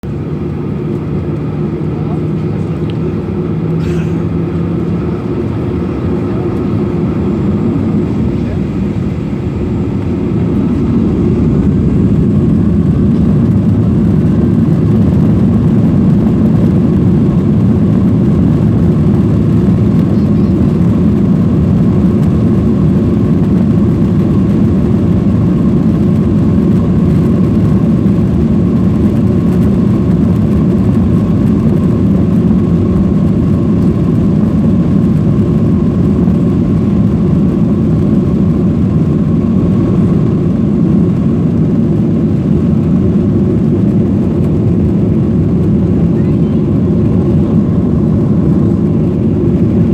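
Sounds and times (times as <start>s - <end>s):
faint engine whine: 0.0s - 49.9s
jet engines deep rumble: 0.0s - 49.9s.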